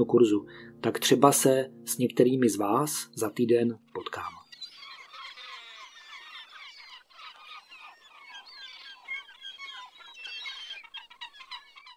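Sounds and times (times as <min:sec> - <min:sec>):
birds chirping and twittering: 0:00.5 - 0:11.9.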